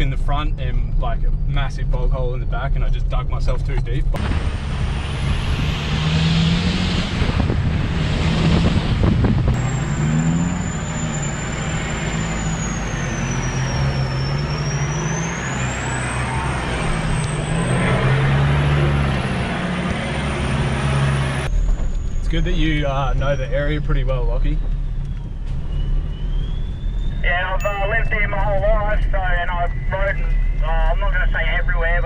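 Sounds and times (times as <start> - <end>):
rumbling tyre and body noise: 0.0 - 32.0
vehicle engine at low revs: 0.0 - 32.0.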